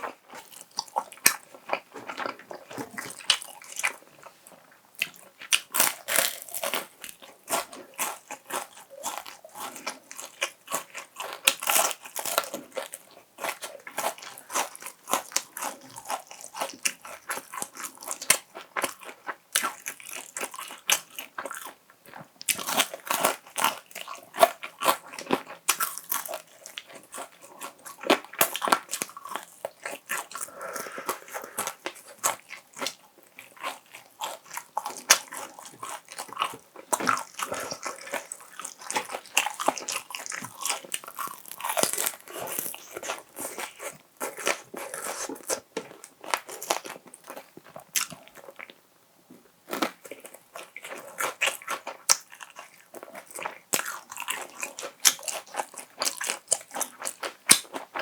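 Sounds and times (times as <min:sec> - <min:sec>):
crunching and chewing crispy food: 0:00.0 - 0:48.8, 0:49.6 - 0:58.0.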